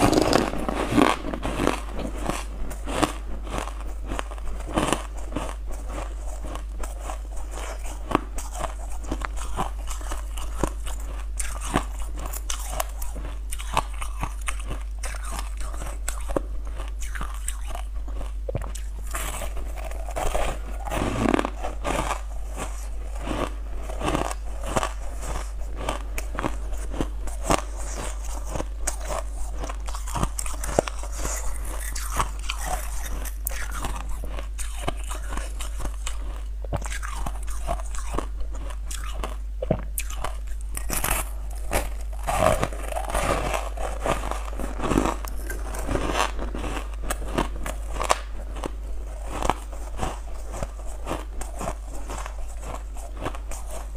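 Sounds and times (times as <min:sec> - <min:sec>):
constant low hum: 0:00.0 - 0:53.9
ice cubes crunching being chewed: 0:00.0 - 0:53.9.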